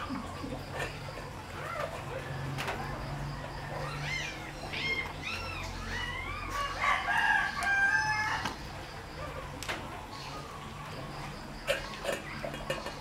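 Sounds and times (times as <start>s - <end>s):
bird calls: 0.0s - 13.0s.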